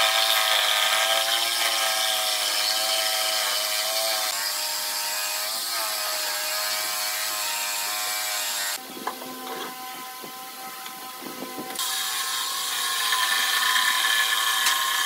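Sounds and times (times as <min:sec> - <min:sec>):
jigsaw cutting wood: 0:00.0 - 0:15.0.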